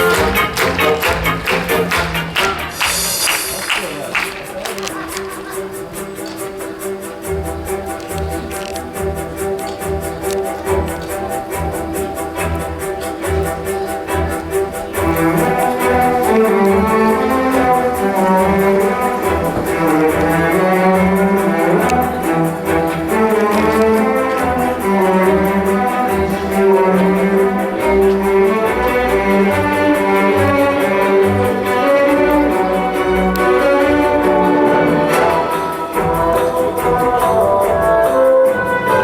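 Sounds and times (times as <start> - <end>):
orchestral strings melody: 0.0 - 39.0.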